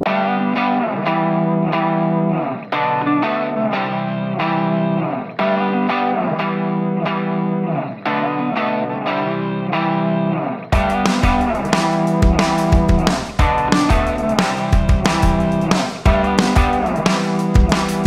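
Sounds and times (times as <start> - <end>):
guitar playing: 0.0 - 18.0.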